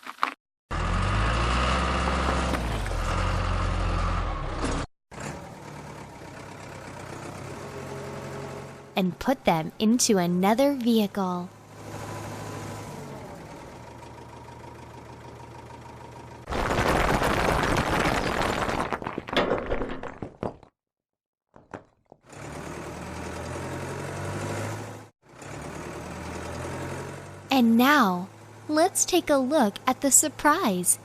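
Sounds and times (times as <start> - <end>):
wheel loader engine running: 0.7 - 18.1, 22.2 - 31.0.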